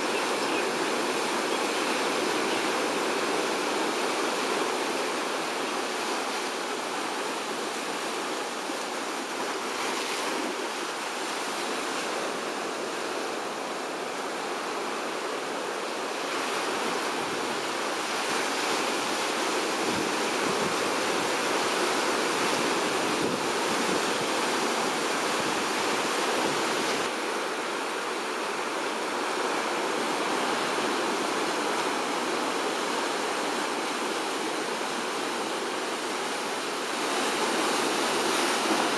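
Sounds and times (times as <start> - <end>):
ocean surf on rocky shore: 0.0 - 38.9.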